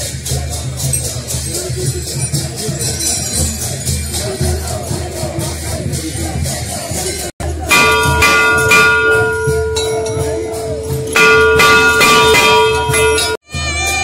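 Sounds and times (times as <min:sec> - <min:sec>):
crowd chatter: 0:00.0 - 0:14.0
drumming: 0:00.0 - 0:14.0
large metal bell ringing: 0:00.0 - 0:14.0.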